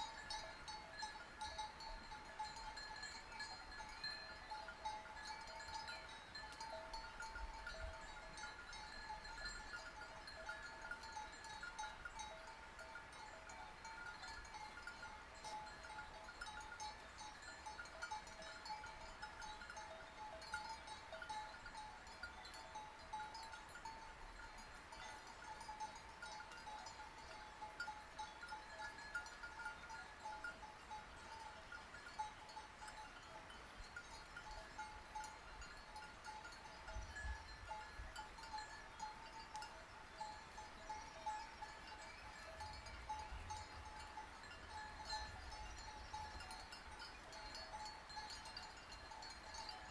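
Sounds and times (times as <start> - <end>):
sheep bells clanking: 0.0 - 49.9.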